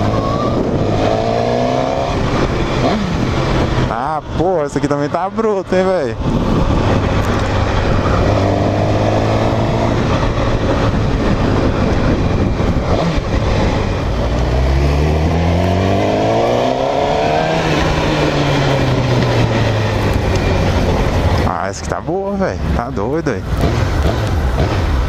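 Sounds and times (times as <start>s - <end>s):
heavy wind noise: 0.0s - 25.0s
motorcycle engine running: 0.0s - 25.0s.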